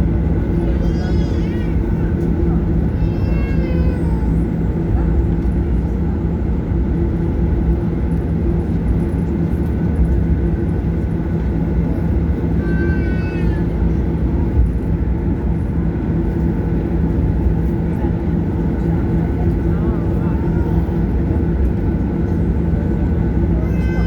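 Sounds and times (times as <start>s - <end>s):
aircraft cabin engine rumble: 0.0s - 24.0s.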